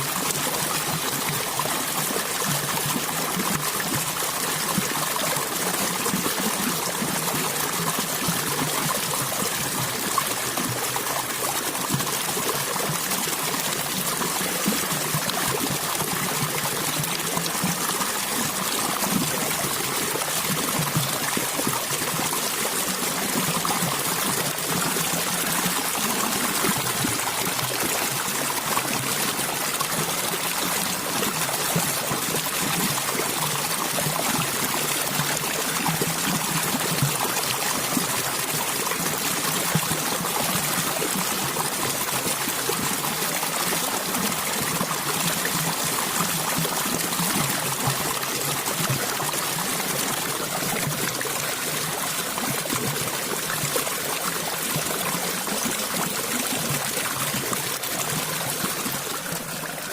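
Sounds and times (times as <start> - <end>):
water trickling over rocks: 0.0 - 59.9.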